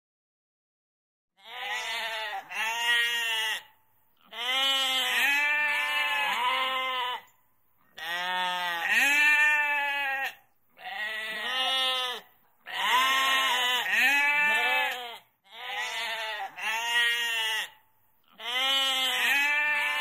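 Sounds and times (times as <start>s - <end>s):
sheep and goats bleating: 1.4s - 20.0s.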